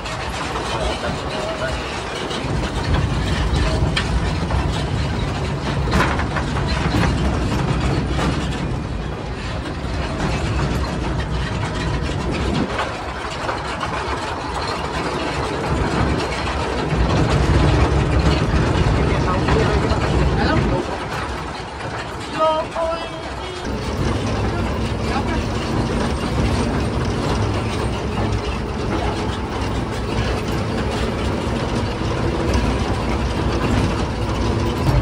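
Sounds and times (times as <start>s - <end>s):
diesel locomotive engine drone: 0.0s - 35.0s
wheels and couplings clanking: 0.0s - 35.0s.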